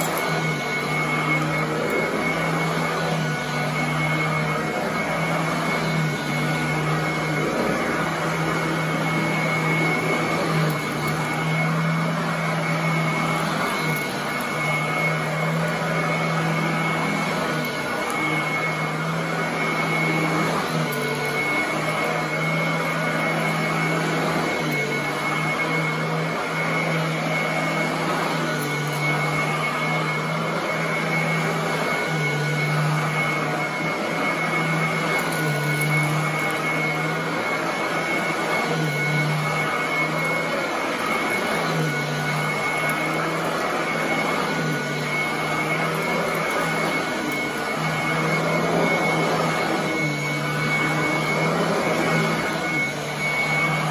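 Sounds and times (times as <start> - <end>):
vacuum cleaner running on carpet: 0.0 - 53.9.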